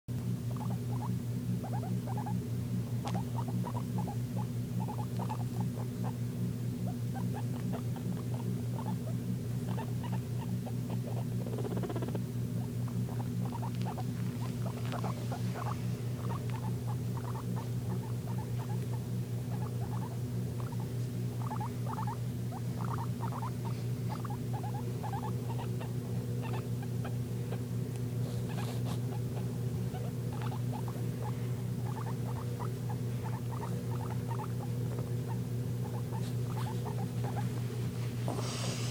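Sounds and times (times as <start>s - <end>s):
low hum: 0.1s - 38.9s
guinea pig squeaking: 0.3s - 37.9s.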